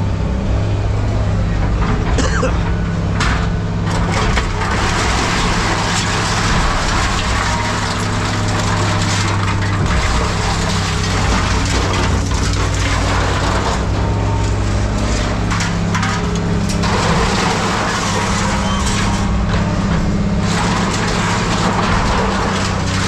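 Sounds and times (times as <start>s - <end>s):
diesel engine running: 0.0s - 23.0s
scrap metal crunching and clattering: 0.6s - 23.0s.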